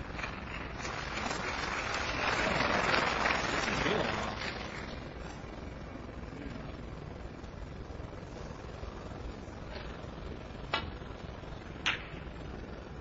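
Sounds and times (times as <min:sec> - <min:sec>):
low arena hum: 0:00.0 - 0:13.0.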